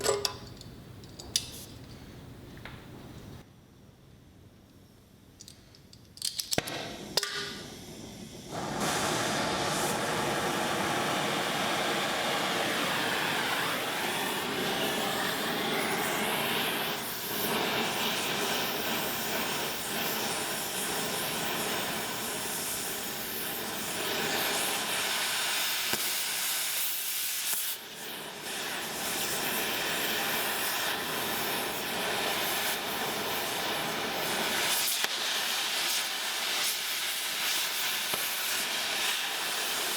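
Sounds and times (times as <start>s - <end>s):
cutting torch hissing: 6.7s - 39.9s.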